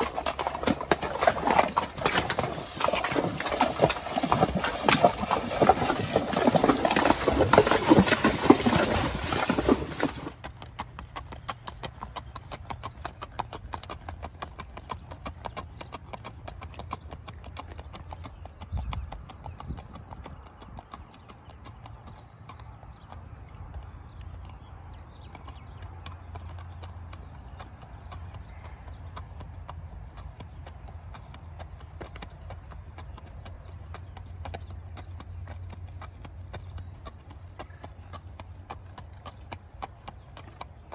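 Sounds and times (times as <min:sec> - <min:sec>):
horse hooves on asphalt: 0:00.0 - 0:40.9.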